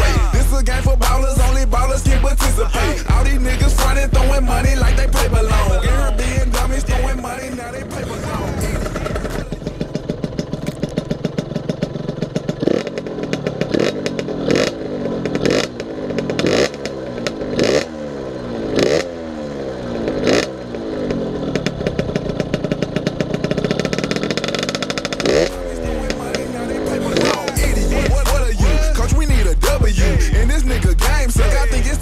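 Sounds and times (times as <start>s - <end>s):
two-stroke engine idling and revving: 0.0s - 32.0s.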